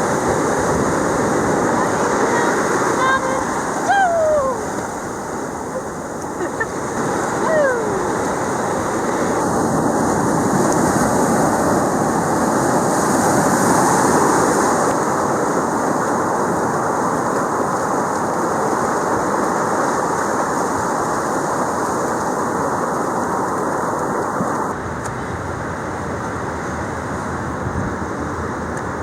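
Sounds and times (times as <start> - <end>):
ocean surf breaking: 0.0 - 29.0
wind noise on microphone: 0.0 - 29.0.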